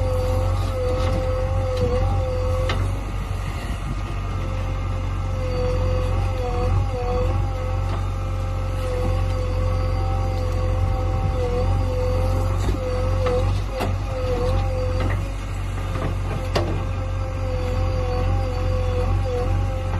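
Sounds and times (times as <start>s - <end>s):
diesel engine under load: 0.0s - 19.9s
high hydraulic whine: 0.0s - 19.9s.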